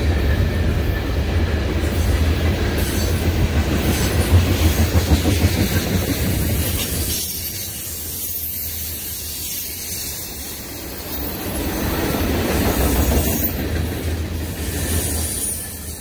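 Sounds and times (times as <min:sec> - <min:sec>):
steel wheels rumbling on rails: 0:00.0 - 0:16.0.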